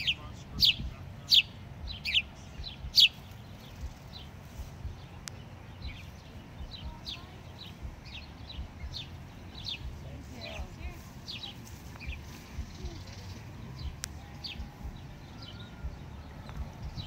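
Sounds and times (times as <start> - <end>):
low outdoor rumble: 0.0 - 17.0
small songbirds chirping: 0.0 - 17.0.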